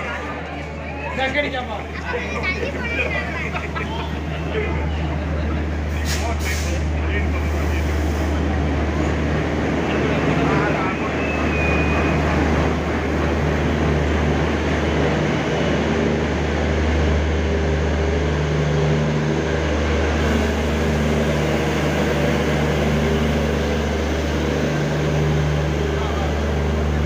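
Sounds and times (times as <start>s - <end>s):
diesel train passing: 0.0s - 27.0s.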